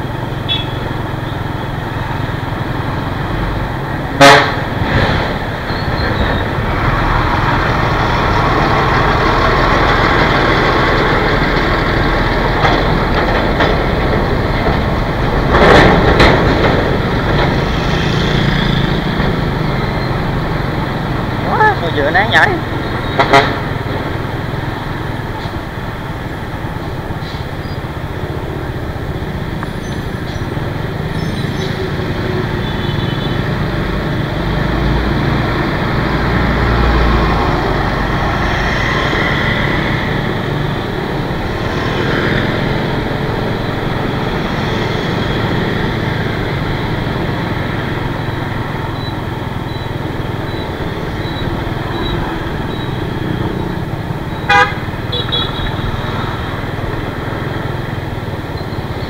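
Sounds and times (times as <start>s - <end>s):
road traffic rush: 0.0s - 59.0s.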